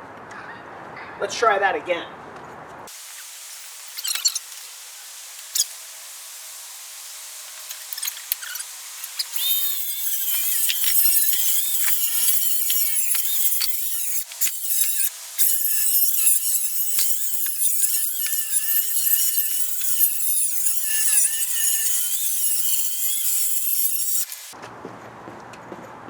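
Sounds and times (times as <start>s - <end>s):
power saw cutting wood: 2.9s - 24.6s.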